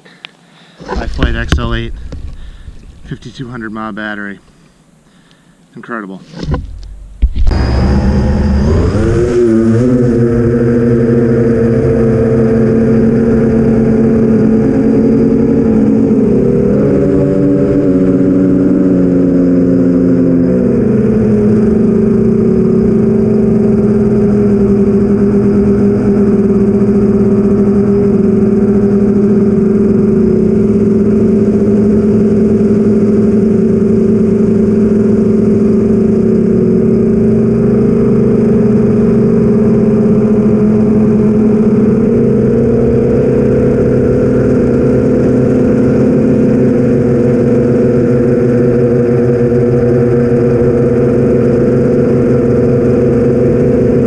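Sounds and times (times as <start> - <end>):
quadcopter motors buzzing whine: 0.0 - 5.7, 6.3 - 54.0.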